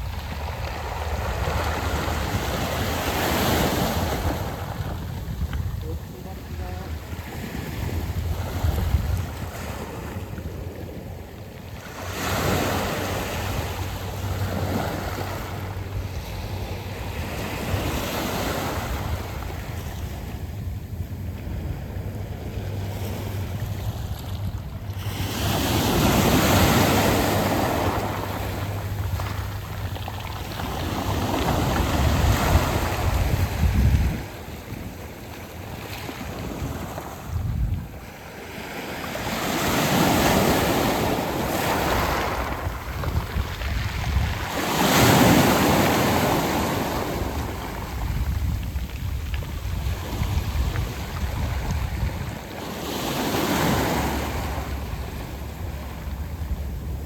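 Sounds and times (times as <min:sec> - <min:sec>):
waves washing over pebbles: 0:00.0 - 0:57.0
wind rumbling on microphone: 0:00.0 - 0:57.0.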